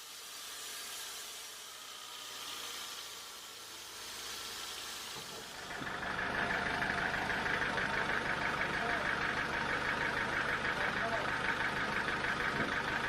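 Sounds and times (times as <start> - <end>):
engine idling: 1.6 - 13.0.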